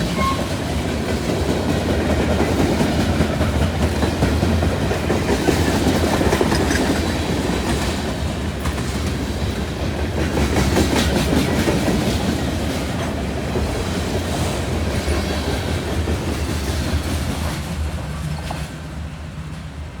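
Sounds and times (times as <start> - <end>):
freight train wheels clattering on rails: 0.0 - 20.0.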